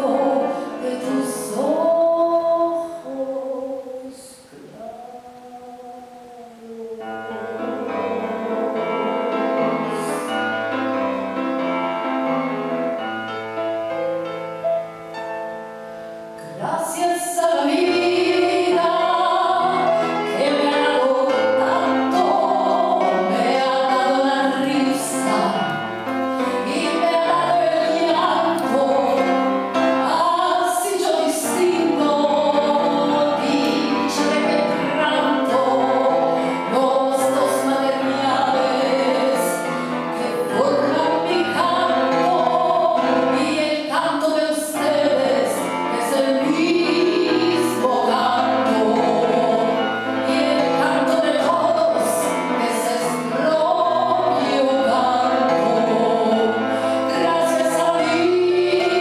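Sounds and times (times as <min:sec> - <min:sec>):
woman singing into microphone: 0:00.0 - 0:10.6, 0:16.4 - 0:59.0.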